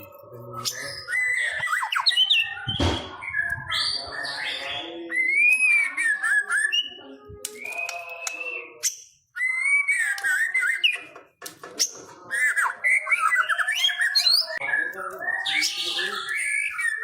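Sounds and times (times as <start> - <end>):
bird singing whistled phrases: 0.6 - 11.0, 12.3 - 17.0.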